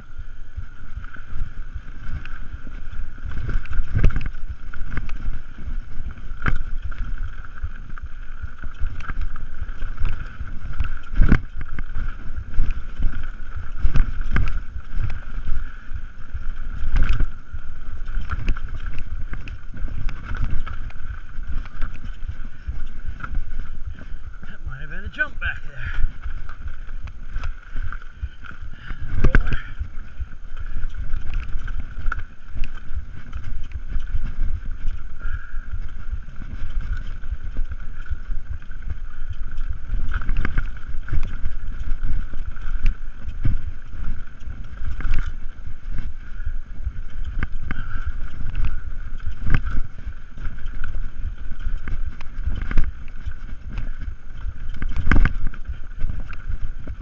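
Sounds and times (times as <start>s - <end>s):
mountain bike rattling: 0.0s - 57.0s
wind buffeting microphone: 0.0s - 57.0s
bike knocking on bumps: 1.0s - 57.0s.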